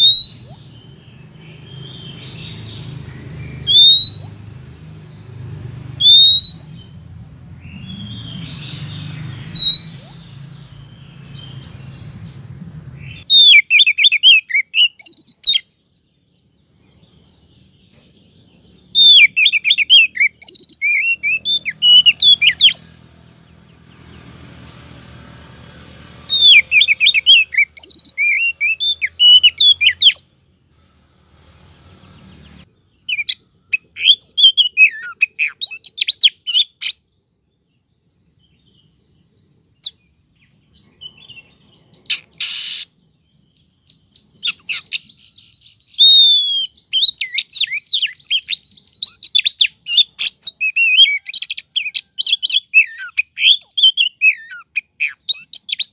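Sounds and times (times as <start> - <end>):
bird call chirps and twitters: 0.0 - 55.9.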